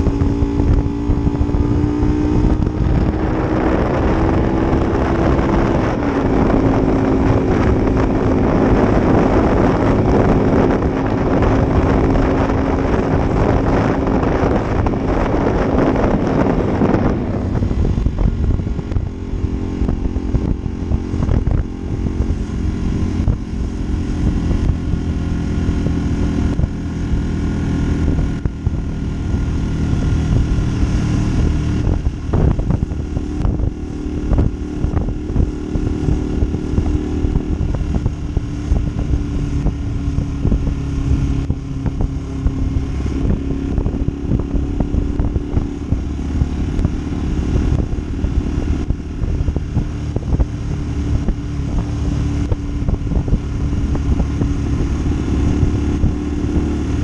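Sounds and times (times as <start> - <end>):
loud rushing noise: 0.0 - 57.0
motorcycle engine running: 0.0 - 57.0.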